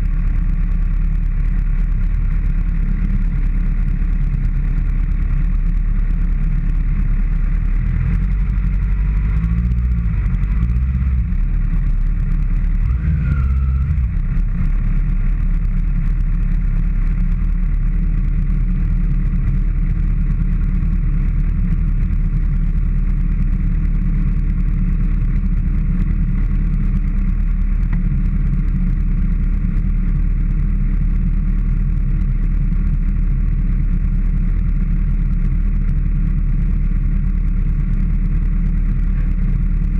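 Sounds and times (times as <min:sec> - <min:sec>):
motorcycle engine and wind roar: 0:00.0 - 0:39.9.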